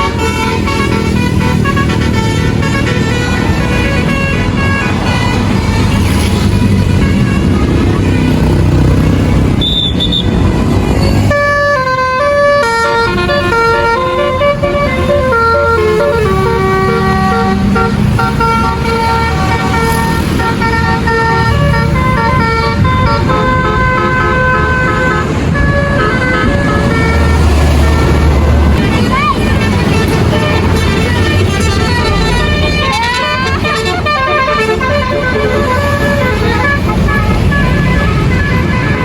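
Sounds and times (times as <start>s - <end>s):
bus engine rumble: 0.0s - 39.0s
musical horn playing a tune: 0.0s - 39.0s.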